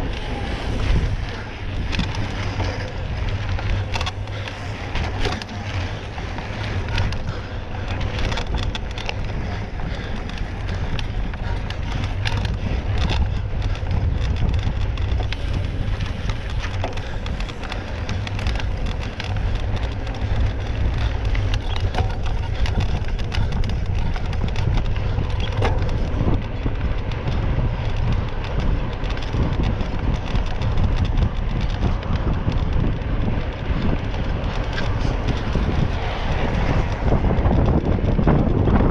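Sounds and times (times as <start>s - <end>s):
crackling and rattling clicks: 0.0s - 38.9s
wind rumble on microphone: 0.0s - 38.9s.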